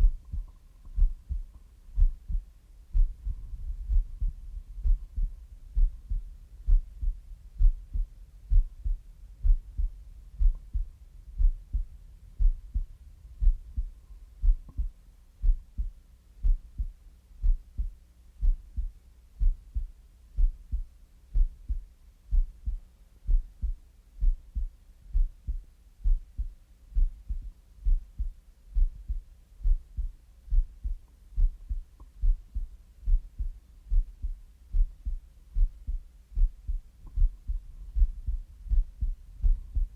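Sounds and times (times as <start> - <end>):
slow heartbeat: 0.0 - 39.9.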